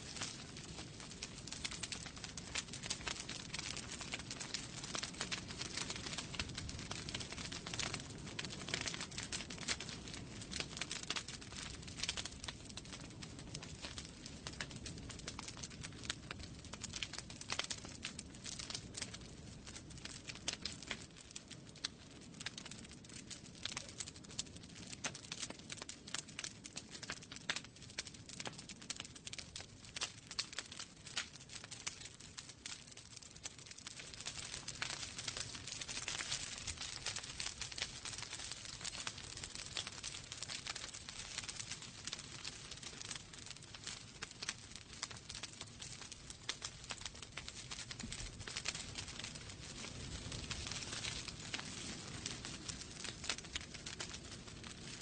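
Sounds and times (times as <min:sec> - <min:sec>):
flames hissing and rumbling: 0:00.0 - 0:55.0
wood fire crackling and popping: 0:00.0 - 0:55.0.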